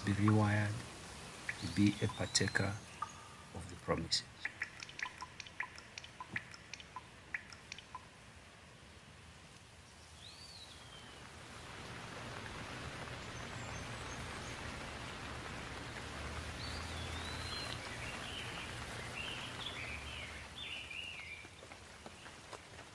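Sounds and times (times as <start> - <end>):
birds chirping: 0.0 - 9.0, 9.7 - 22.9
steady rain falling: 0.0 - 22.9.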